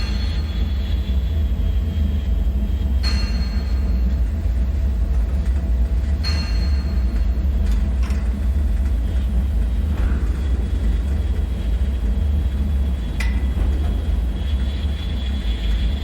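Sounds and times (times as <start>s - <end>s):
deep rumbling drone: 0.0s - 16.0s.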